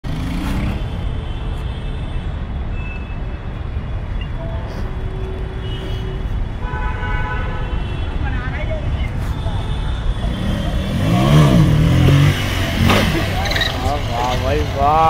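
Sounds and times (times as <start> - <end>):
wind and road noise rumbling: 0.0 - 15.0.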